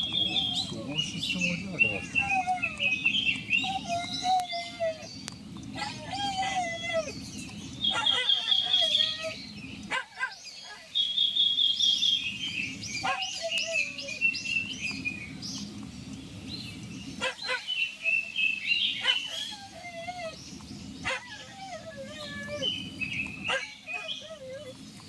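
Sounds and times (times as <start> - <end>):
bird singing high phrases: 0.0 - 24.6
bird chirps: 0.0 - 24.7.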